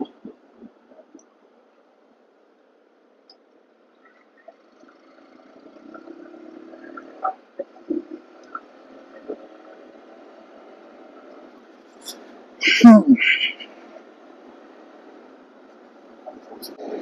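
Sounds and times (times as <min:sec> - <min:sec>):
motorcycle riding noise: 0:02.5 - 0:17.0.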